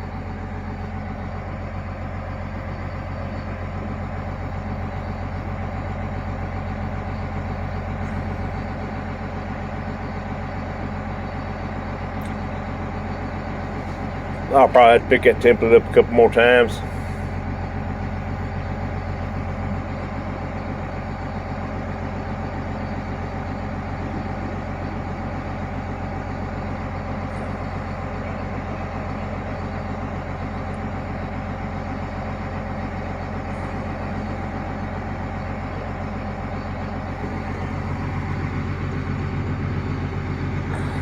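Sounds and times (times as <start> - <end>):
large engine idling: 0.0 - 41.0.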